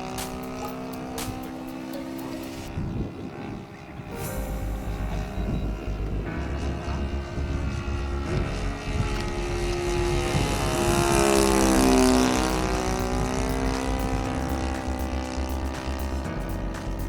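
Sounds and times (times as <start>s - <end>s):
model airplane engine passing by: 0.0s - 17.0s.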